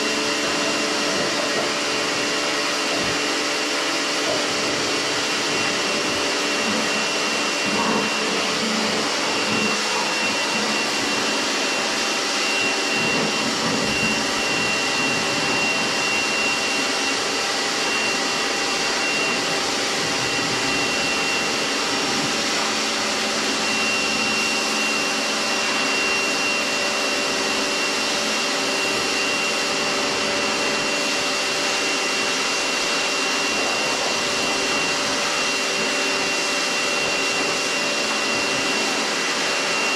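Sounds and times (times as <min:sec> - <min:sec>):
pressure washer motor whine: 0:00.0 - 0:39.9.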